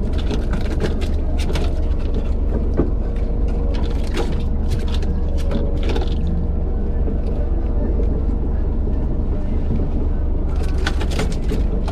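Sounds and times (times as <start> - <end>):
boat engine rumbling: 0.0 - 11.9.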